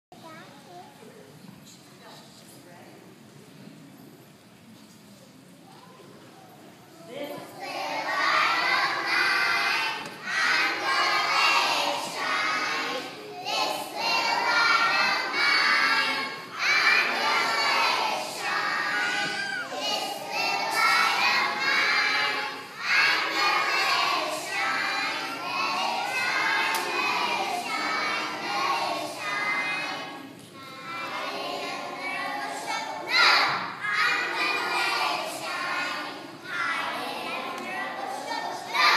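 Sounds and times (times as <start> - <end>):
children singing: 7.4 - 38.9.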